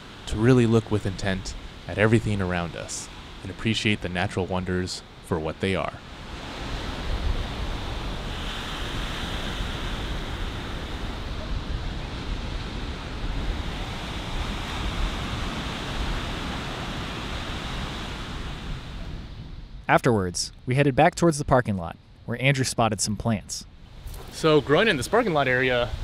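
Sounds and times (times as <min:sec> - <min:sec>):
surf breaking on beach: 0:00.0 - 0:19.4, 0:24.0 - 0:26.0
wind buffeting microphone: 0:00.0 - 0:19.9, 0:23.8 - 0:26.0.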